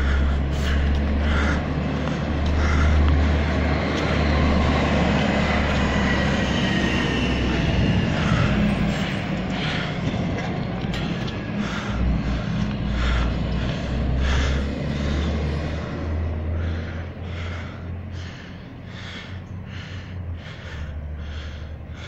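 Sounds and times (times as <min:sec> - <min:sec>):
fast rhythmic breathing: 0:00.0 - 0:22.0
steady low rumble: 0:00.0 - 0:22.0.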